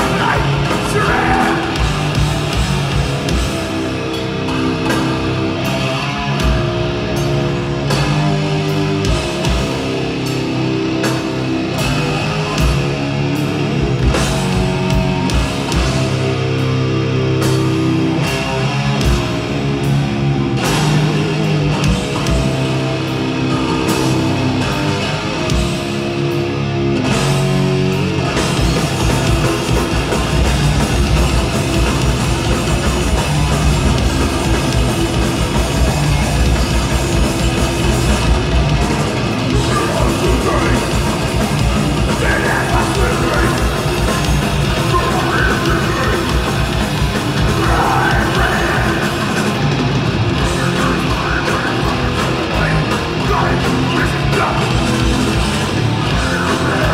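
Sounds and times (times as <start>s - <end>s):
bass guitar: 0.0s - 56.9s
distorted electric guitars: 0.0s - 56.9s
heavy drumming: 0.0s - 56.9s.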